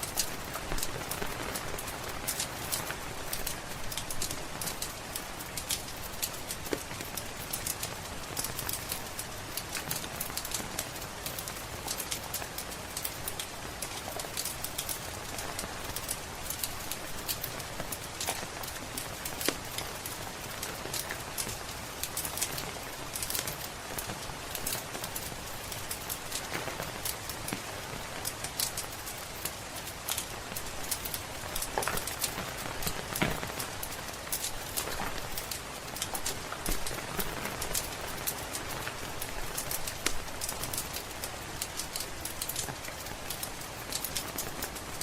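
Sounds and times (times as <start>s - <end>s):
rain hiss: 0.0s - 45.0s
wood fire crackling and popping: 0.0s - 45.0s.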